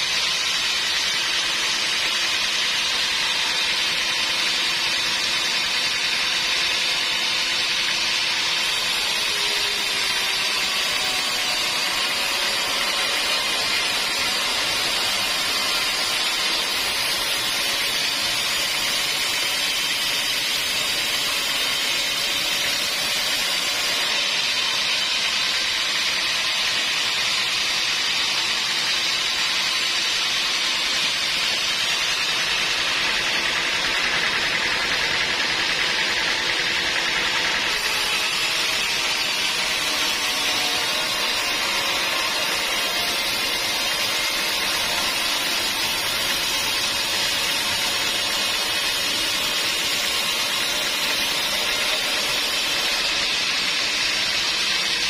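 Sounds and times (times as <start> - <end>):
sawmill saw hissing: 0.0 - 55.0.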